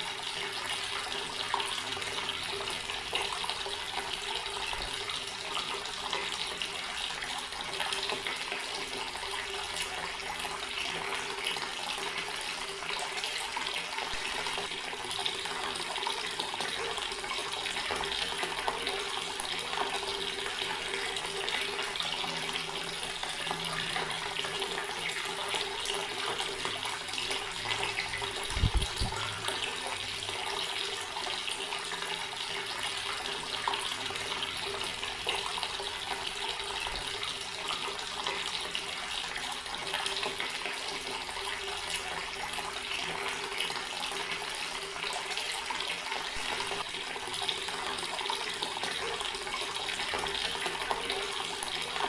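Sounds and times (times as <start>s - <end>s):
water running from a tap: 0.0s - 52.0s.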